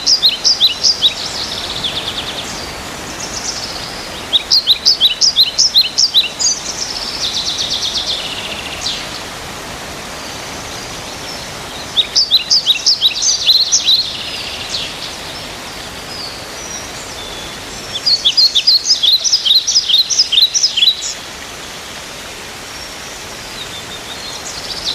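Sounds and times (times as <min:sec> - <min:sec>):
songbird chirping: 0:00.0 - 0:21.3
outdoor background hiss: 0:00.0 - 0:24.9.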